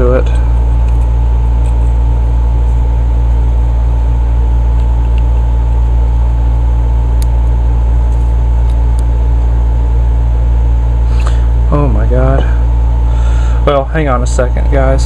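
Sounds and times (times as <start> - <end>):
motor droning: 0.0 - 15.0
thin steady whine: 0.0 - 15.0.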